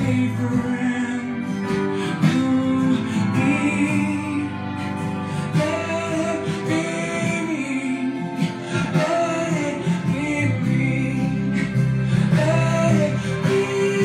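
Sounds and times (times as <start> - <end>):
guitar accompaniment: 0.0 - 14.0
person singing: 0.0 - 14.0.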